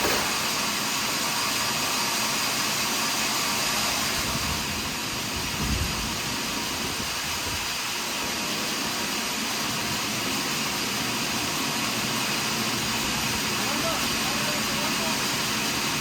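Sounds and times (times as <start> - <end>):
sawmill saw running: 0.0 - 16.0.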